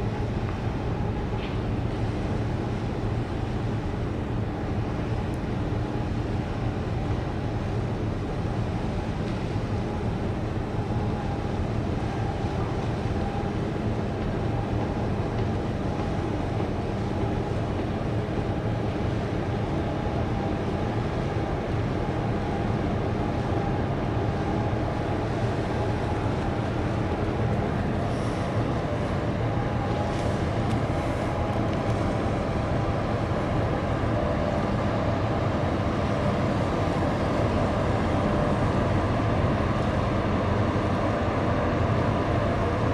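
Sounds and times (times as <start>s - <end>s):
constant hum: 0.0s - 42.9s
ship engines rumbling: 0.0s - 42.9s.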